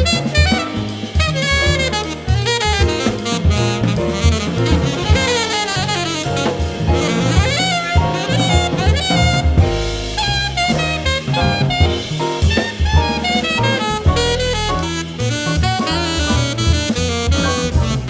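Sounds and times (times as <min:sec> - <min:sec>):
jazz group playing: 0:00.0 - 0:18.0
saxophone fast runs: 0:00.0 - 0:18.0.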